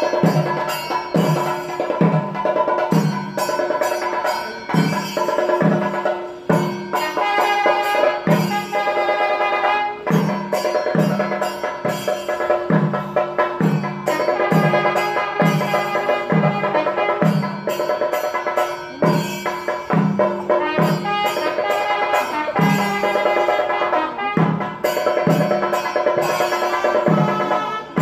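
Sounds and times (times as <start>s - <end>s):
steady drum beat: 0.0s - 28.0s
wind instrument melody: 0.0s - 28.0s.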